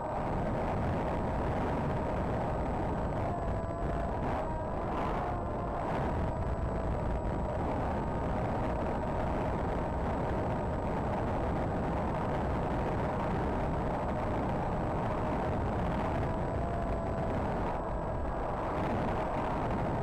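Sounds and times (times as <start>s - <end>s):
wind rushing on microphone: 0.0s - 20.0s
model plane motor droning: 0.3s - 20.0s.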